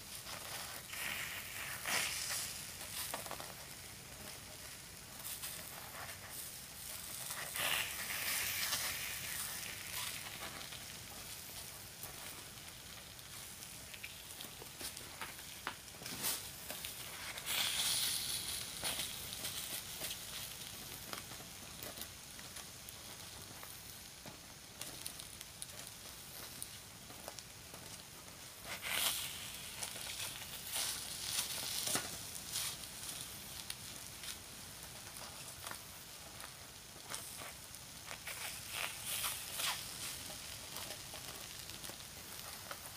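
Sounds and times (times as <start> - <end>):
batter sizzling on hot plate: 0.0 - 42.9.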